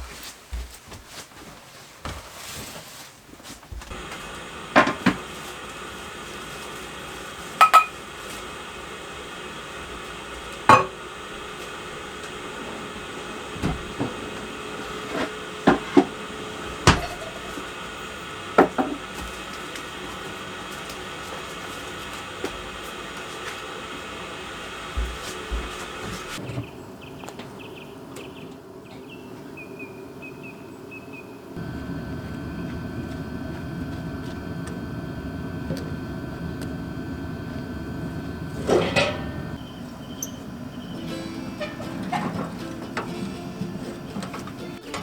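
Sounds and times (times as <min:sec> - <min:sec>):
steady hum: 0:03.9 - 0:45.0.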